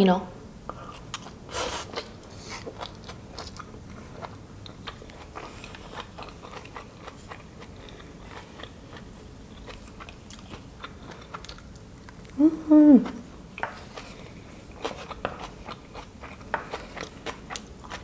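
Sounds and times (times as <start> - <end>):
person chewing noodles: 0.9 - 12.4, 13.0 - 18.0.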